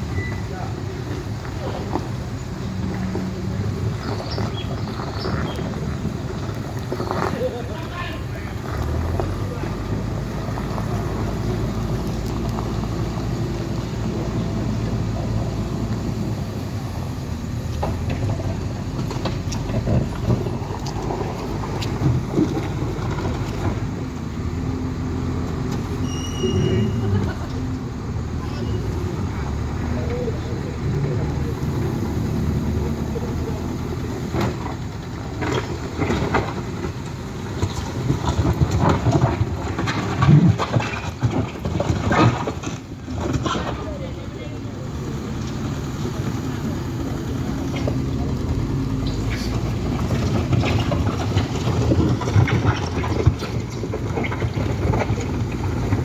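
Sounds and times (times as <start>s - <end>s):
heavy engine running: 0.0s - 56.0s
heavy machinery rumbling: 0.0s - 56.0s.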